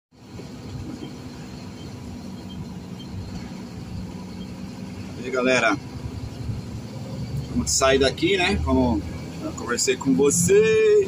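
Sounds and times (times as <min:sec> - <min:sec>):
road noise: 0:00.1 - 0:11.0
truck engine drone: 0:00.1 - 0:11.0.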